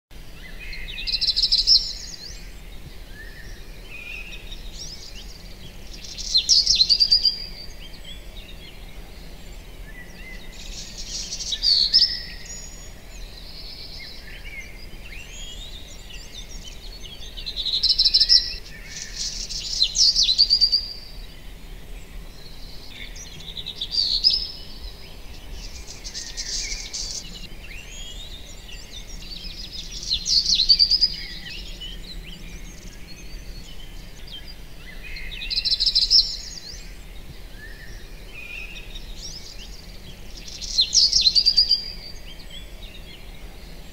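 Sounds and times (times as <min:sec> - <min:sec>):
birds singing: 0:00.1 - 0:43.9
faint background noise: 0:00.1 - 0:43.9
bird chirps and calls: 0:00.6 - 0:21.3, 0:22.3 - 0:37.0, 0:37.6 - 0:43.9.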